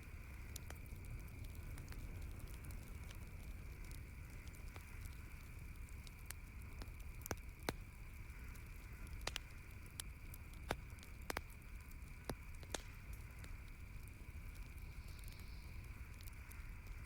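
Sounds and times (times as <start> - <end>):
campfire crackling: 0.0 - 17.0
steady background hiss: 0.0 - 17.0.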